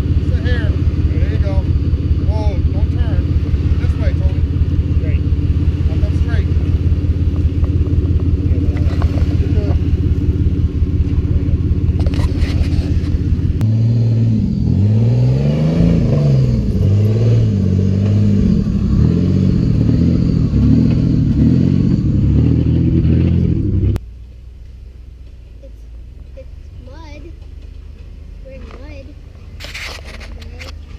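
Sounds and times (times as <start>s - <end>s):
off-road vehicle engine revving: 0.0s - 24.2s, 24.8s - 30.9s.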